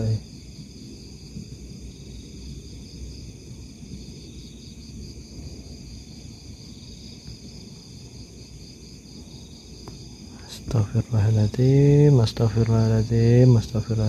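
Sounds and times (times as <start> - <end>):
crickets and night insects trilling: 0.0 - 14.0.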